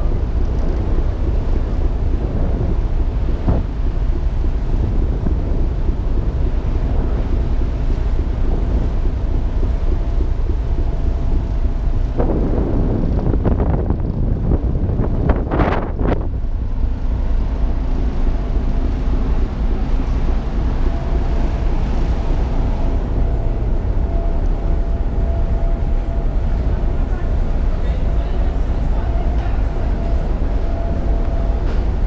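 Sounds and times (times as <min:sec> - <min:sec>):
ferry engines rumbling: 0:00.0 - 0:32.0
wind buffeting microphone: 0:00.0 - 0:32.0.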